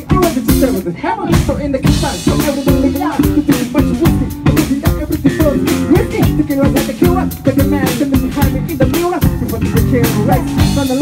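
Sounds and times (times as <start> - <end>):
drum kit steady beat: 0.0 - 11.0
live rock band playing: 0.0 - 11.0
man singing lead vocal: 0.0 - 11.0.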